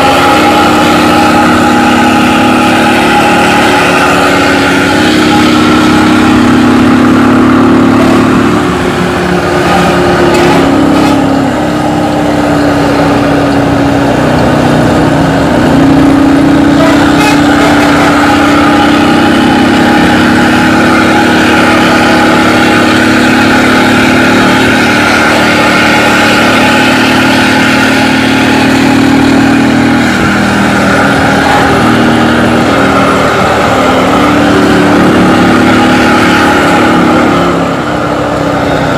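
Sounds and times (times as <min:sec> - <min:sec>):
bus engine with loud exhaust: 0:00.0 - 0:38.9.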